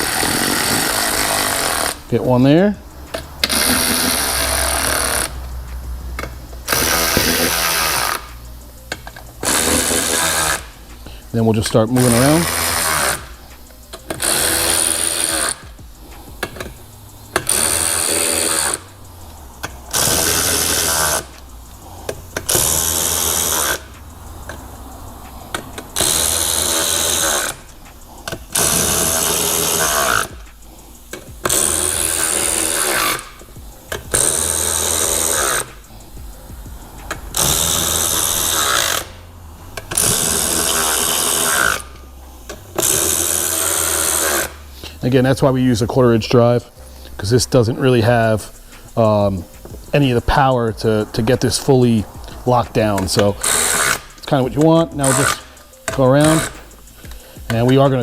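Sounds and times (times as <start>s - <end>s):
power tool driving bolts: 0.0s - 35.9s, 36.9s - 39.2s, 39.8s - 45.5s, 47.1s - 58.0s.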